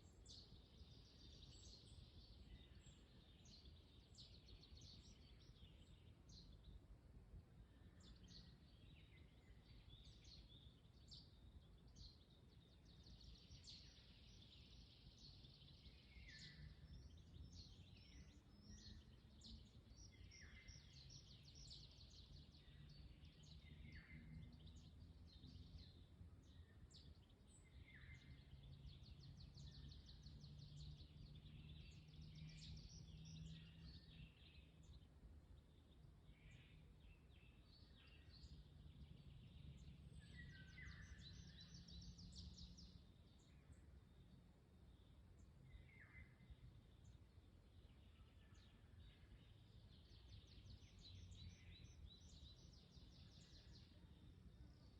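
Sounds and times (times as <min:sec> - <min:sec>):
small birds chirping and trilling: 0:00.0 - 0:54.9.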